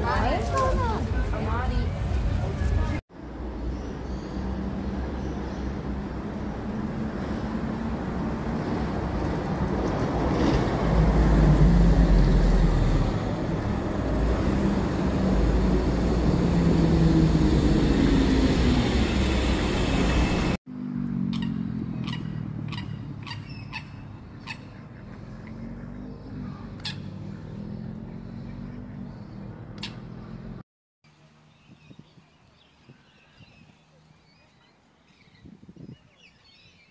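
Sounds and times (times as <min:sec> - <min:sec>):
road traffic rushing past: 0:00.0 - 0:31.5.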